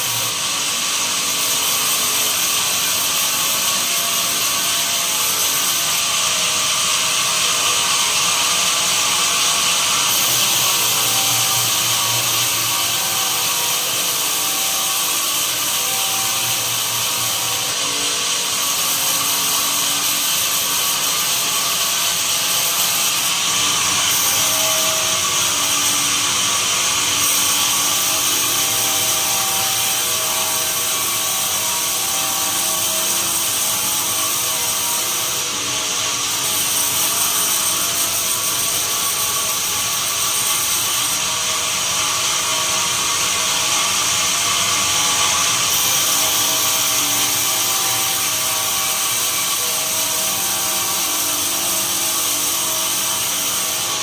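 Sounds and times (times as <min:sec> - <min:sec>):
sawmill saw cutting timber: 0:00.0 - 0:54.0.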